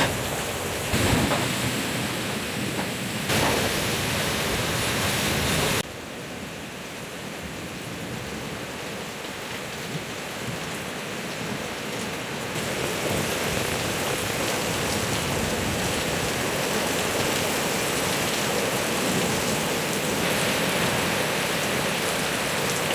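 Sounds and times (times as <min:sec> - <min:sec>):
heavy rain pouring: 0:00.0 - 0:22.9.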